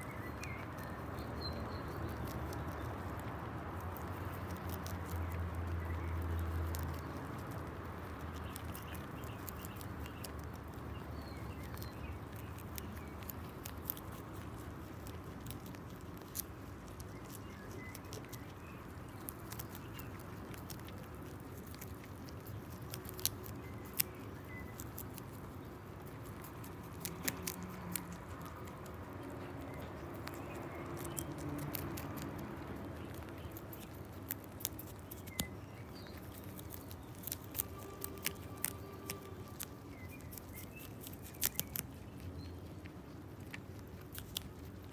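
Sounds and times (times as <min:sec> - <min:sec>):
rabbits chewing: 0:00.0 - 0:44.9.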